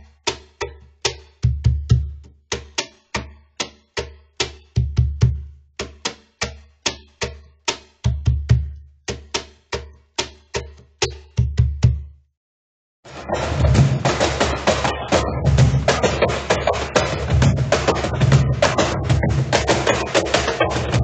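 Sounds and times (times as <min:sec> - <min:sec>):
cajon slaps and bass tones: 0:00.2 - 0:12.1, 0:13.1 - 0:21.0.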